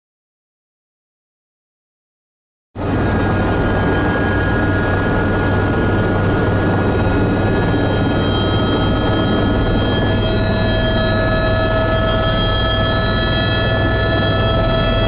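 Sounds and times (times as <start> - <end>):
helicopter rotor thrum: 2.8 - 15.0
high turbine whines: 2.8 - 15.0
mid-pitched whine: 2.8 - 15.0.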